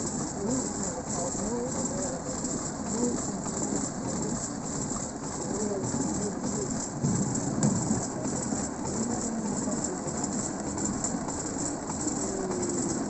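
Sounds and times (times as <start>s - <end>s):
steel wheels rattling on rails: 0.0s - 13.0s.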